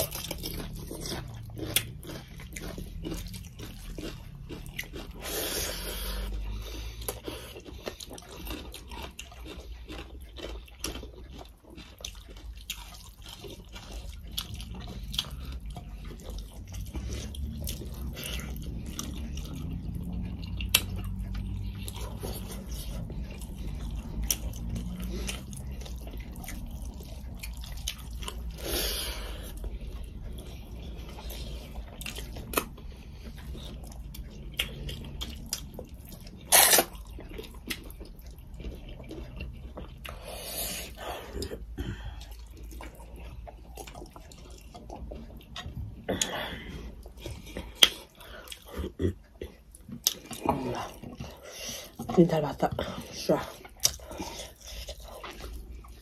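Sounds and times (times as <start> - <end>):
chewing and mouth smacks: 0.0 - 56.0.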